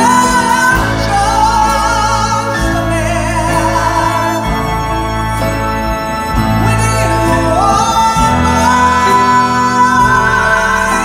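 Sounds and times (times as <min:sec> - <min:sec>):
grand piano: 0:00.0 - 0:11.0
upright bass: 0:00.0 - 0:11.0.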